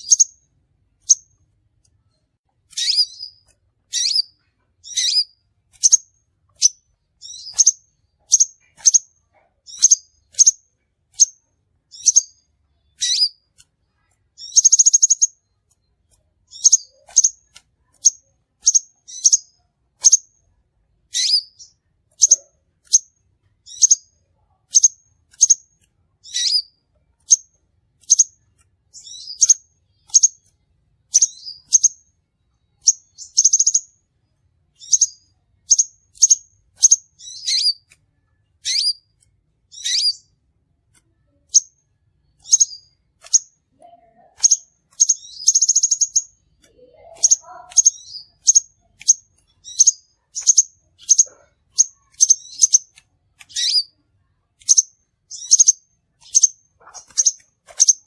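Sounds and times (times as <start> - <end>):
buzzy bird trill: 0.0 - 1.4, 2.7 - 20.4, 21.1 - 32.1, 32.7 - 34.0, 34.7 - 38.0, 38.6 - 40.4, 41.3 - 54.0, 54.6 - 58.0
sunbird chirping: 0.0 - 1.4, 2.7 - 20.4, 21.1 - 30.5, 31.1 - 34.1, 34.7 - 39.1, 39.7 - 40.4, 41.2 - 54.0, 54.6 - 58.0.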